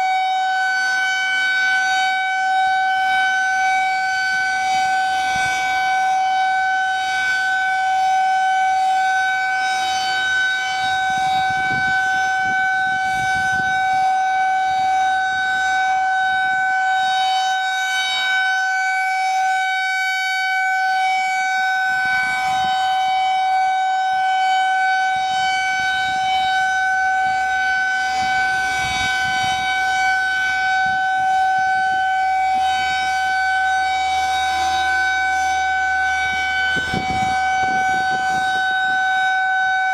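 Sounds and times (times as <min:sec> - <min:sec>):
warning siren steady pitch: 0:00.0 - 0:39.9.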